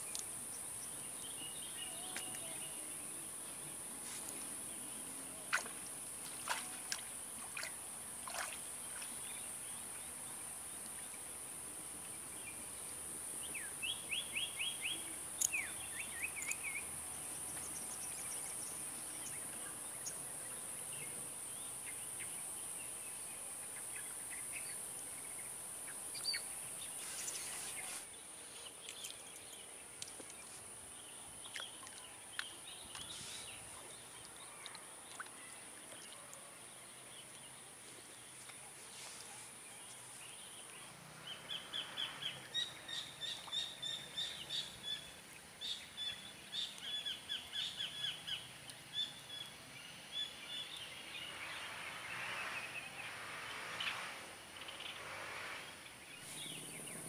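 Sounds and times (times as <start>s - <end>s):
steady high hiss: 0.0s - 31.4s, 36.9s - 57.0s.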